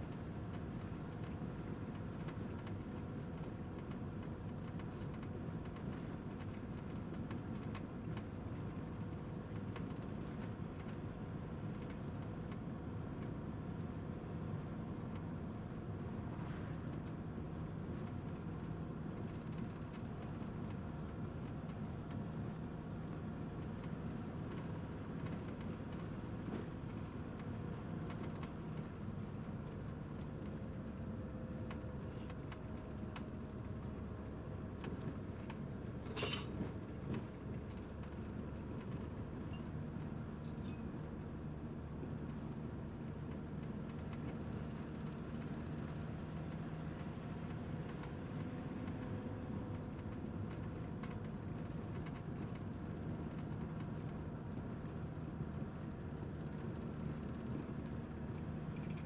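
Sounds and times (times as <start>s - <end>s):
vehicle running rumble: 0.0s - 59.0s.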